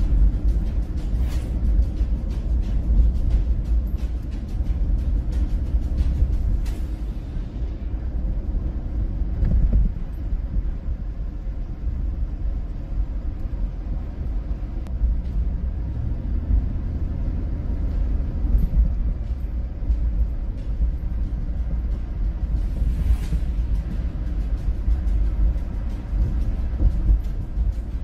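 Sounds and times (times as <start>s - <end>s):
car driving on snowy road: 0.0s - 28.0s.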